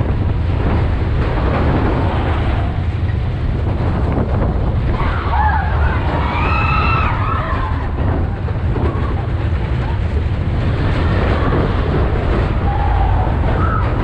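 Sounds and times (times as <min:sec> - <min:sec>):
roller coaster train rumbling on track: 0:00.0 - 0:14.0
wind buffeting microphone: 0:00.0 - 0:14.0.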